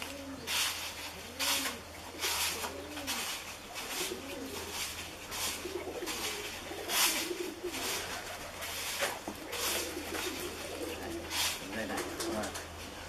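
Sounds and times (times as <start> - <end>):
doves cooing: 0.0 - 13.0
rustles and scratches of wire: 0.0 - 13.0.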